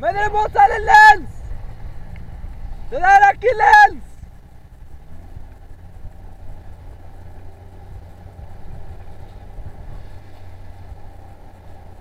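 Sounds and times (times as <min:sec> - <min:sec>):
low rumble of wind and water: 0:00.0 - 0:12.0
motorboat engine running: 0:00.0 - 0:12.0.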